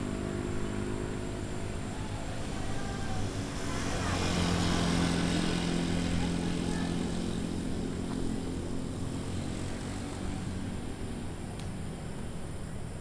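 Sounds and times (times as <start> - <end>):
vehicle engine passing by: 0.0 - 12.5.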